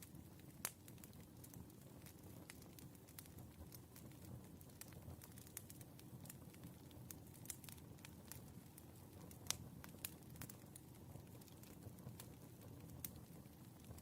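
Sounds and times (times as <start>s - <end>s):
firewood crackling and popping: 0.0s - 14.0s
low fire rumble: 0.0s - 14.0s.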